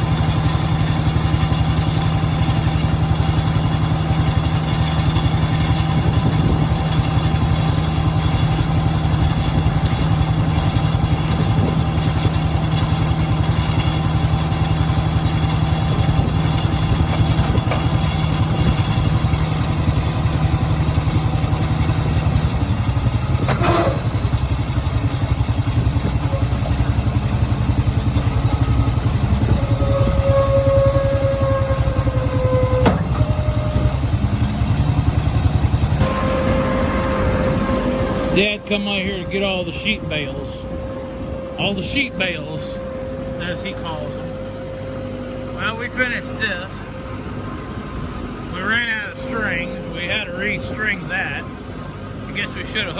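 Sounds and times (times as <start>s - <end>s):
baler working: 0.0s - 52.9s
tractor engine under load: 0.0s - 52.9s
thin whine: 2.7s - 52.9s.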